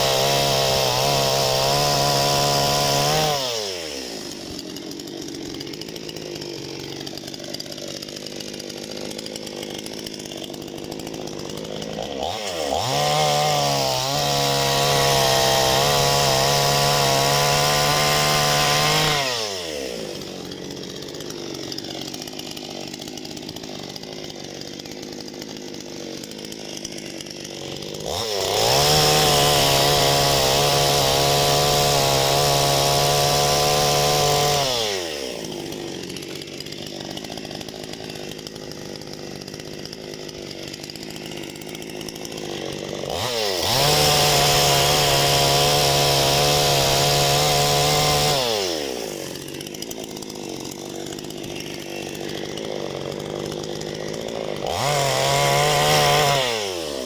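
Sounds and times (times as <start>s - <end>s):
chainsaw cutting firewood: 0.0s - 57.0s
chainsaw idling and revving: 0.0s - 57.0s.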